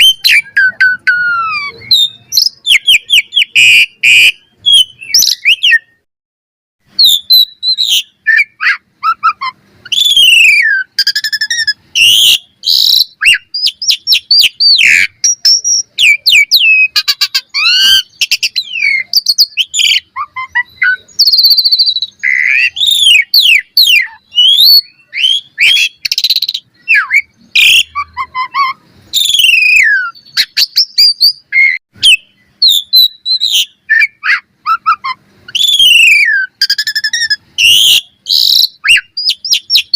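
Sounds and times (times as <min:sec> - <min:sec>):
starling singing: 0:00.0 - 0:06.1, 0:06.9 - 0:39.9.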